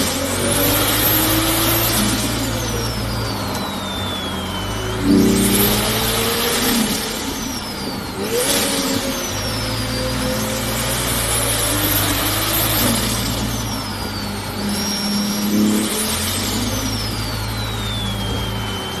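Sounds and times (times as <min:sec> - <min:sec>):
thin high whine: 0:00.0 - 0:19.0
turbocharged car engine running: 0:00.0 - 0:19.0.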